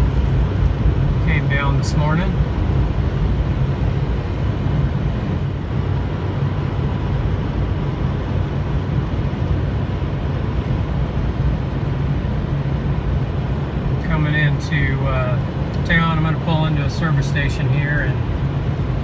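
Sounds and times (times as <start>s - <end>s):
tyre and engine rumble: 0.0s - 19.0s.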